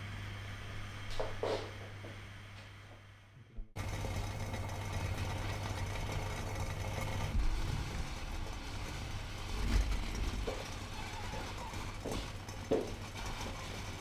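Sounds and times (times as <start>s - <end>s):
mechanical motor hum: 0.0s - 14.0s.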